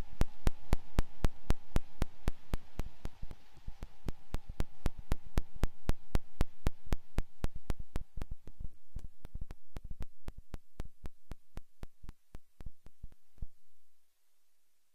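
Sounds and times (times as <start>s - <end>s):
faint hiss: 0.0s - 14.9s.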